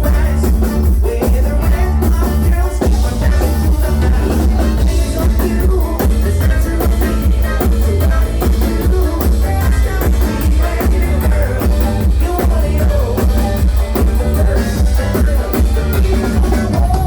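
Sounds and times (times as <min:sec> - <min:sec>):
drum kit: 0:00.0 - 0:17.0
heavy bass: 0:00.0 - 0:17.0
live rock band playing: 0:00.0 - 0:17.0.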